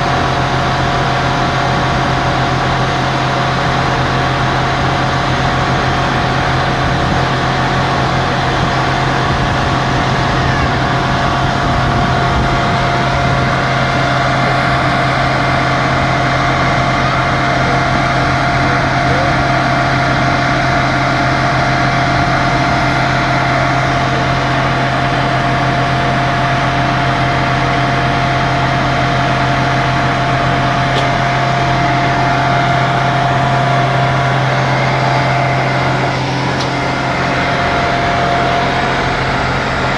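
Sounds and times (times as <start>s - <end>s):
diesel engine drone: 0.0s - 39.9s
drilling rig high whine: 0.0s - 39.9s.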